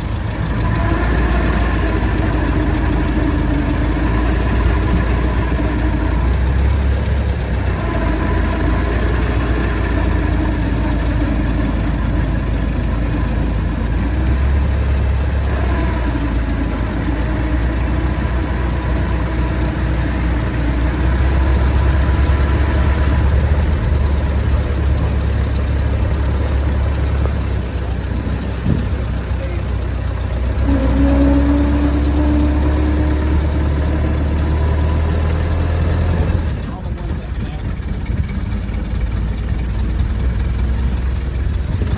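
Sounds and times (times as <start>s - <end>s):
vehicle engine rumbling: 0.0s - 41.9s.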